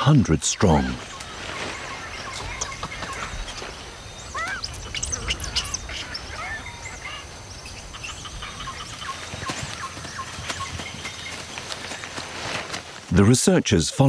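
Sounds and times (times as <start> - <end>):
birds chirping and whistling: 0.6 - 12.6.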